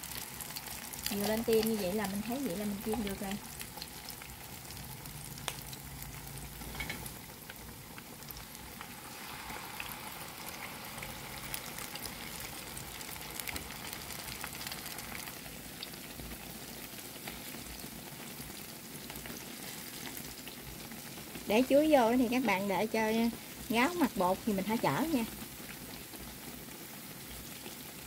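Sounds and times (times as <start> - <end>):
banana pieces deep-frying in oil: 0.0 - 28.0.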